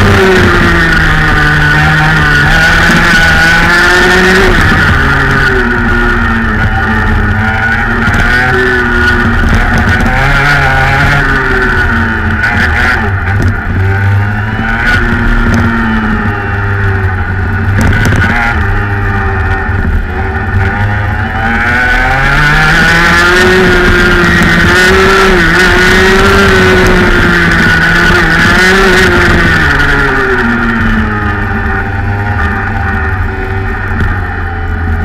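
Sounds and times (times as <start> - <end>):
two-stroke kart engine revving: 0.0 - 35.0.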